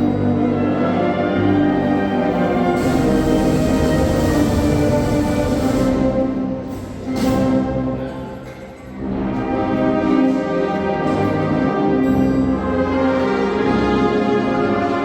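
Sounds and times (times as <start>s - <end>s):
brass band playing chords: 0.0s - 15.0s.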